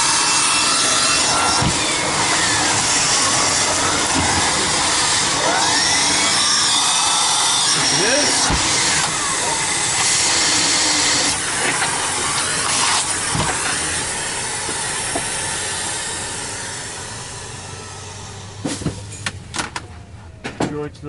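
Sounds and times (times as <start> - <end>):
vacuum cleaner running: 0.0 - 19.2.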